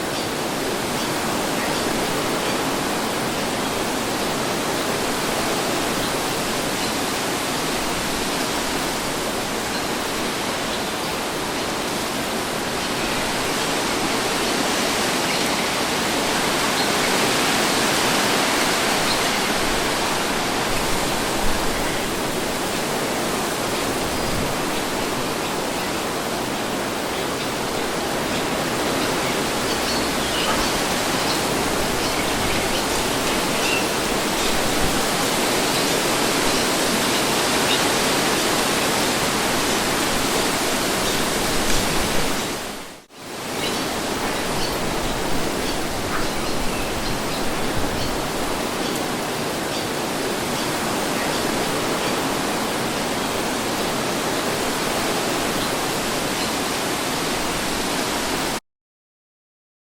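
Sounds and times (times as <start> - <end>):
wind blowing: 0.0 - 58.6.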